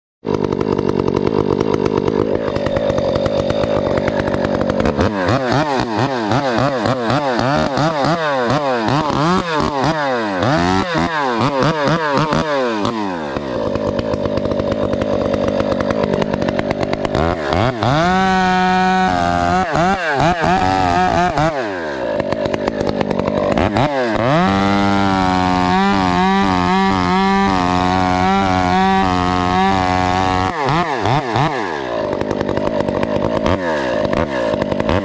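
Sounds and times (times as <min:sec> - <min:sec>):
chainsaw running at high speed: 0:00.2 - 0:35.0.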